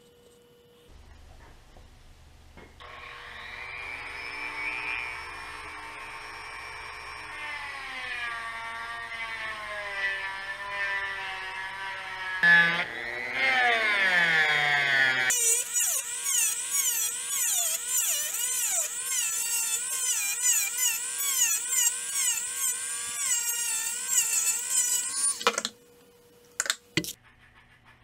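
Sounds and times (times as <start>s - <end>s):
rotary tool grinding wood: 2.8s - 25.7s.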